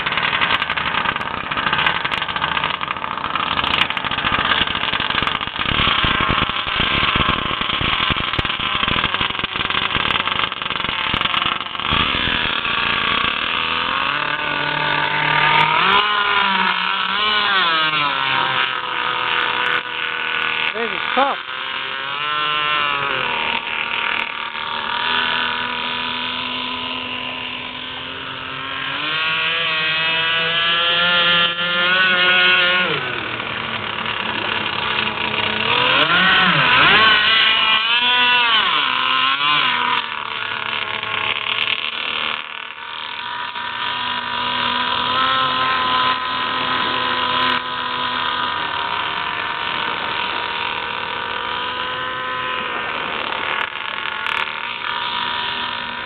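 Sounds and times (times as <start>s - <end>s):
model boat engine running: 0.0s - 56.0s.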